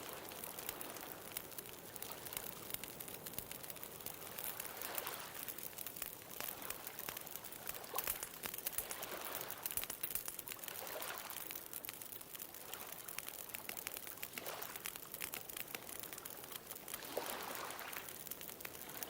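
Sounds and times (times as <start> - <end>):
bonfire crackling: 0.0 - 19.0.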